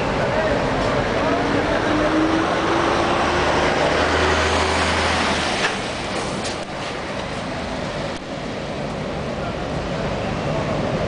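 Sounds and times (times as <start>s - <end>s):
lorry diesel engine droning: 0.0s - 11.0s.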